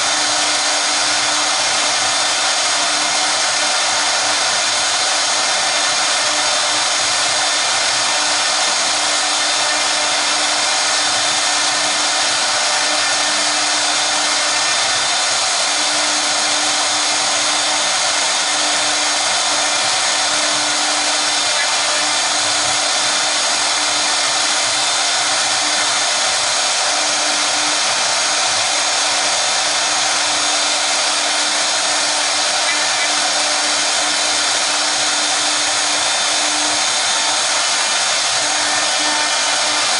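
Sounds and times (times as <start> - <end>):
cnc router whir and hiss: 0.0 - 39.9.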